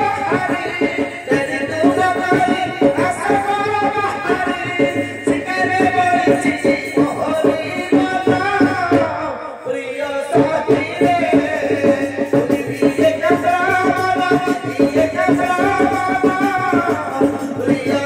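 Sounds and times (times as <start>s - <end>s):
person singing: 0.0s - 18.0s.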